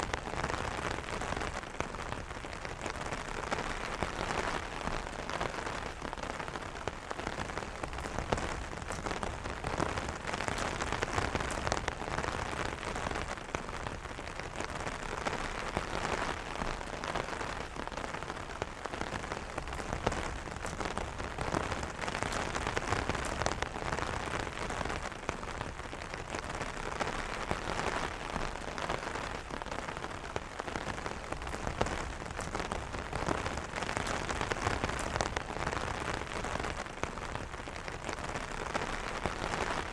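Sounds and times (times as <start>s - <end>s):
rain pattering on umbrella: 0.0s - 39.9s.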